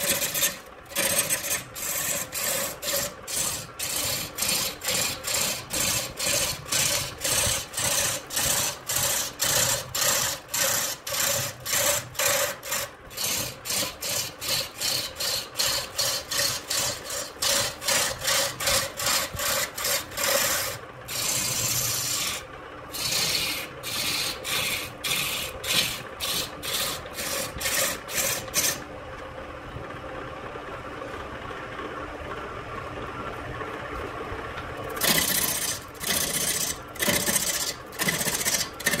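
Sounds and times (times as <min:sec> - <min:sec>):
gouge scraping wood on lathe: 0:00.0 - 0:28.8, 0:35.0 - 0:39.0
lathe running hum: 0:00.0 - 0:39.0.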